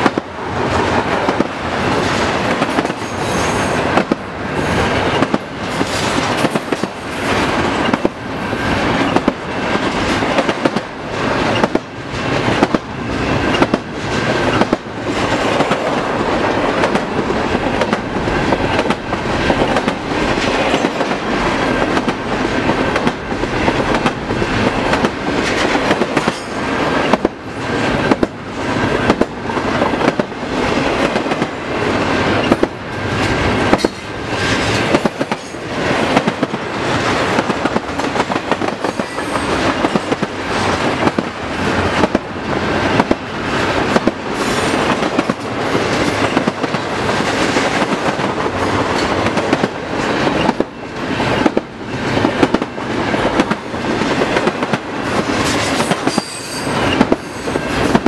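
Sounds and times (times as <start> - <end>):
train wheels clattering over rails: 0.0 - 58.0.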